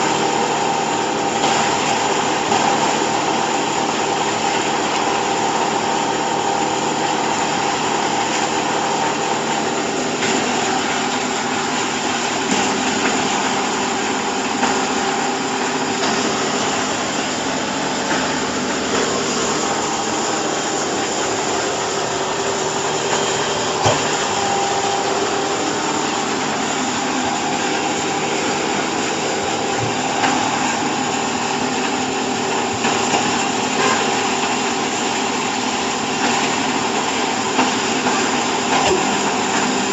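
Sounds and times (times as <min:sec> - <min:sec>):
hydraulic press motor humming: 0:00.0 - 0:39.9.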